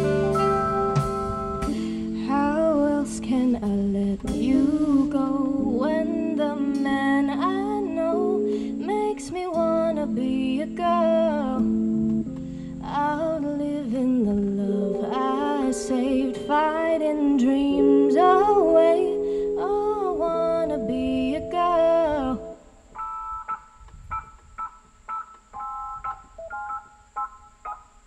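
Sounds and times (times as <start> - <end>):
repeated guitar and keyboard chords: 0.0 - 2.6, 4.2 - 13.0, 14.7 - 27.8
lead melody with vibrato: 0.0 - 3.5, 4.3 - 23.6
keyboard and bass chords: 0.0 - 28.0.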